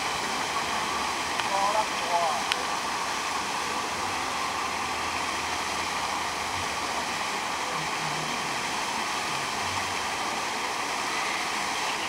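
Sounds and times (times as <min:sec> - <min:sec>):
splashing water rush: 0:00.0 - 0:12.0.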